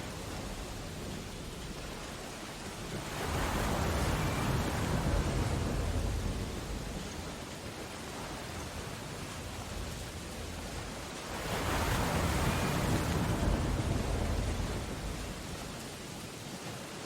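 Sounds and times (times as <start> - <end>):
wave crashing: 0.0 - 16.0
stormy sea roaring: 0.0 - 17.0.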